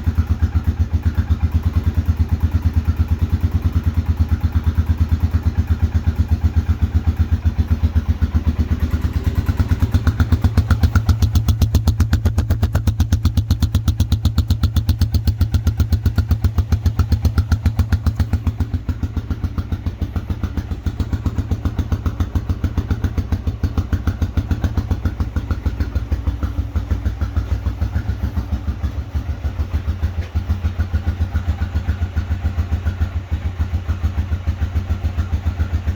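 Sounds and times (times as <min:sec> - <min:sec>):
atv engine idling: 0:00.0 - 0:35.9.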